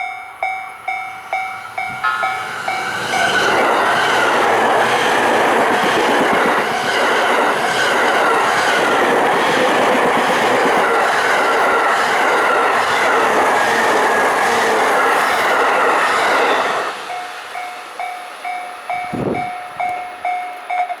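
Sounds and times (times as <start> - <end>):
level crossing warning bell: 0.0 - 21.0
train wheels clattering on rails: 0.0 - 21.0.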